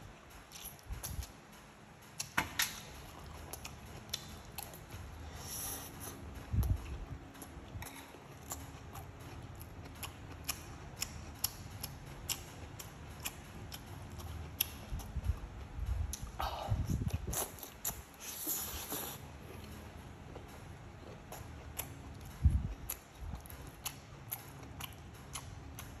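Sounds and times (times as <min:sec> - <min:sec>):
man chewing and lip smacking: 0:02.2 - 0:26.0.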